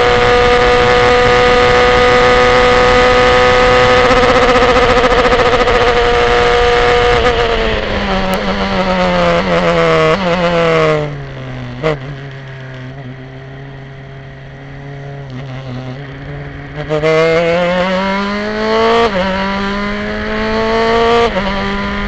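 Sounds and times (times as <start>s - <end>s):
race car engine downshifting: 0.0s - 22.0s.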